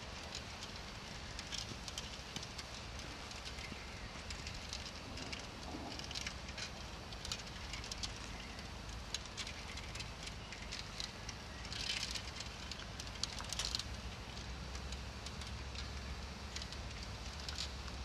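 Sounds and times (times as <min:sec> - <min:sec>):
light clicks and crackles: 0:00.0 - 0:18.0.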